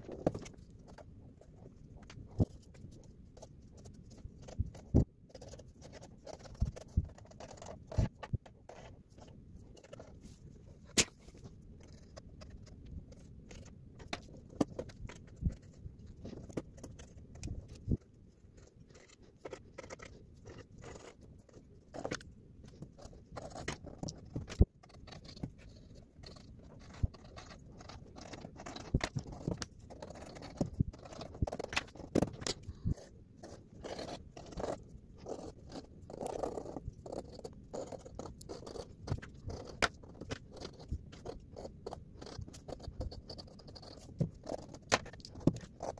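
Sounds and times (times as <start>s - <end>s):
pencil scratching on paper: 0.0s - 45.9s.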